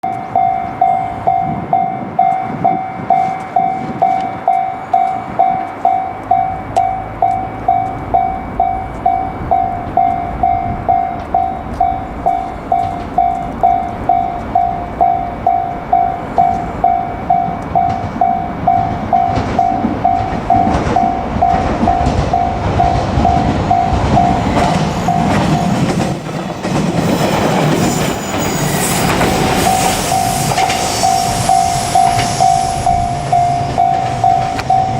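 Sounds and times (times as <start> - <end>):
level crossing bell dinging: 0.0 - 25.8, 31.0 - 34.9
train rumble and wheel clatter: 0.0 - 34.9.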